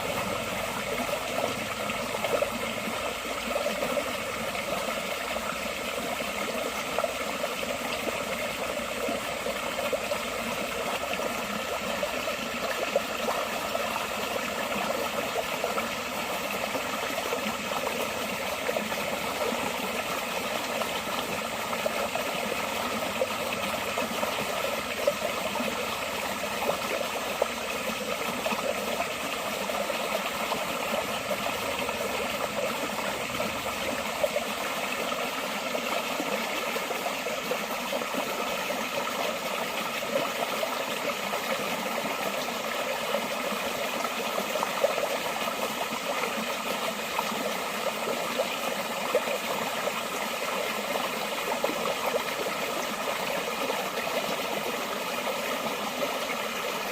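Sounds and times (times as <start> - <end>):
water flowing with gurgles: 0.0 - 56.9.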